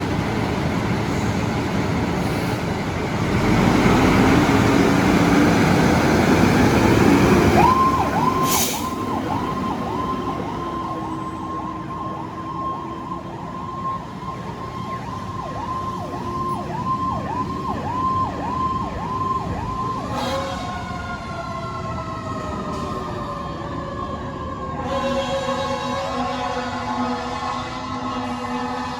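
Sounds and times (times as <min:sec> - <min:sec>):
fire engine passing: 0:00.0 - 0:28.9.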